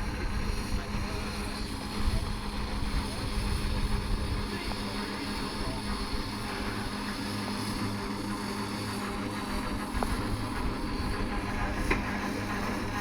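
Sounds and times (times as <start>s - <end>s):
steam locomotive drone: 0.0s - 13.0s.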